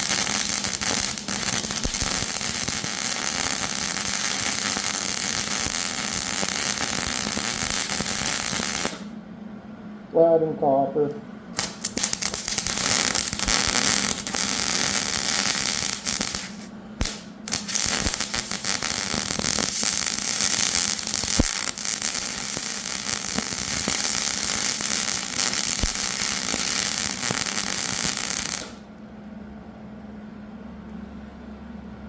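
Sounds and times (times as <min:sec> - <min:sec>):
welding arc crackling: 0:00.0 - 0:09.1, 0:11.6 - 0:28.8
steady low hum: 0:00.0 - 0:32.0.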